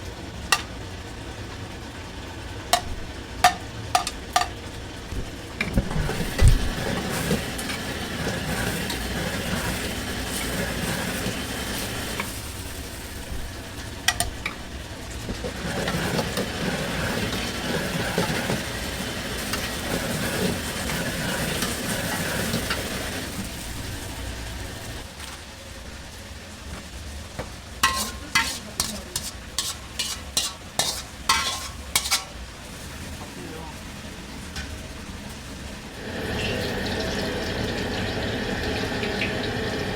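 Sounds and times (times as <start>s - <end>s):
food sizzling in a pan: 0.2s - 39.9s.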